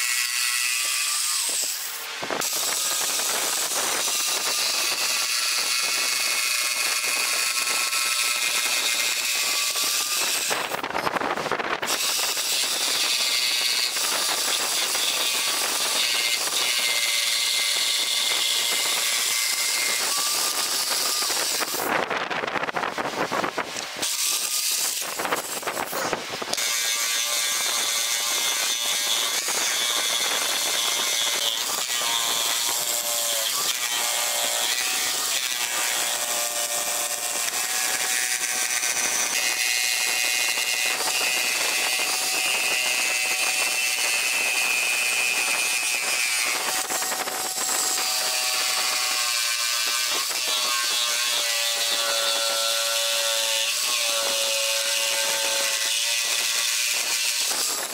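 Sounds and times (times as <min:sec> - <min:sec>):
jigsaw cutting wood: 0:00.0 - 0:57.9.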